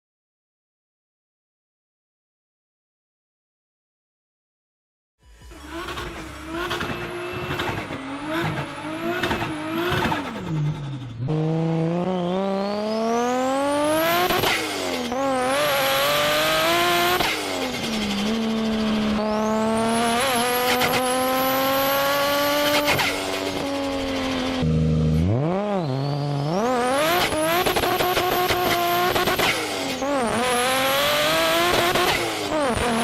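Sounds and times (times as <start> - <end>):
turbocharged car engine accelerating: 5.3 - 33.0.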